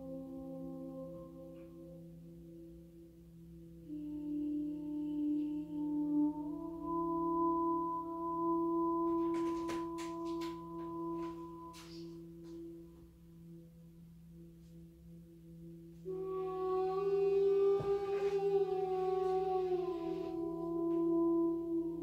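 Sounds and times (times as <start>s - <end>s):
ambient relaxation music: 0.0s - 22.0s.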